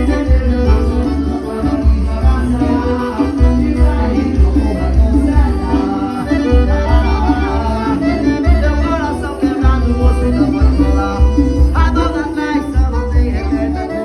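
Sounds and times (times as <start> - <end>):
accordion melody: 0.0 - 14.0
pulsing bass beat: 0.0 - 14.0.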